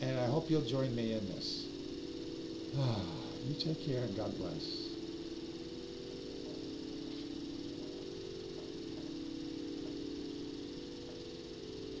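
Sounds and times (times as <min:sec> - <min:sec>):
electrical motor humming: 0:00.0 - 0:12.0.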